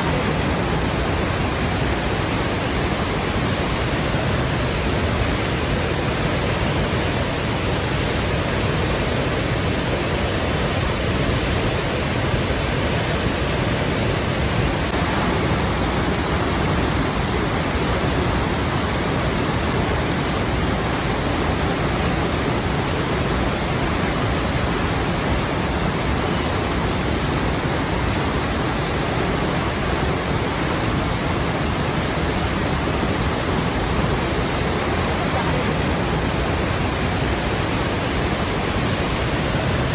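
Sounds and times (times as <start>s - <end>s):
rushing water flowing: 0.0s - 39.9s.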